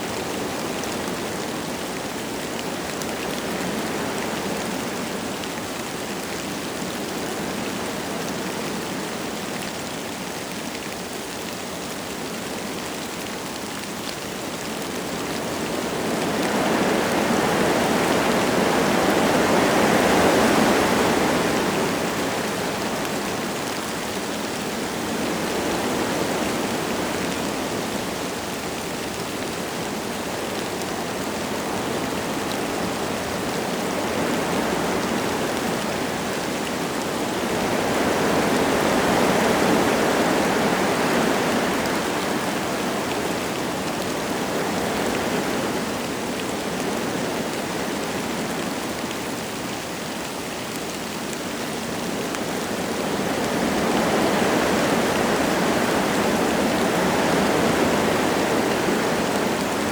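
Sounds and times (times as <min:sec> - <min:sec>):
light rain falling: 0:00.0 - 0:59.9
wind gusting through trees: 0:00.0 - 0:59.9.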